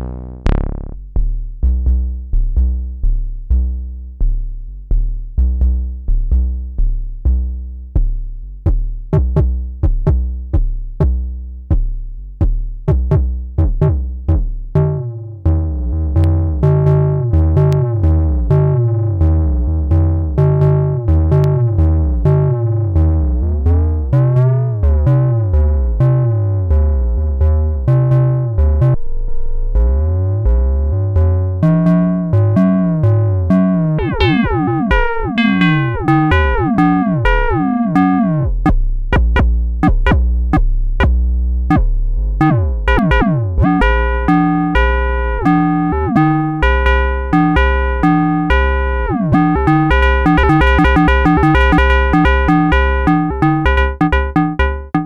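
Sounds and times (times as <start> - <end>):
synthesizer bass line: 0.0 - 3.9, 13.1 - 55.0.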